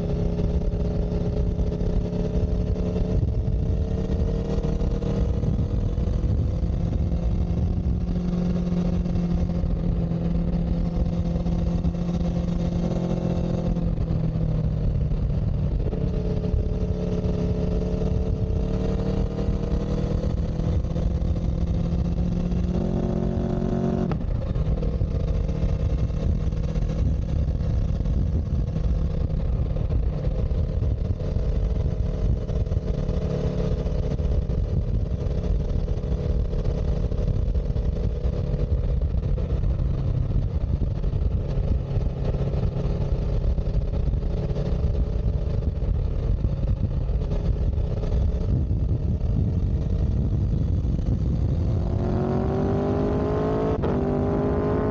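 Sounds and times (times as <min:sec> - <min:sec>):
heavy low rumble: 0:00.0 - 0:54.9
vehicle engine running: 0:00.0 - 0:54.9.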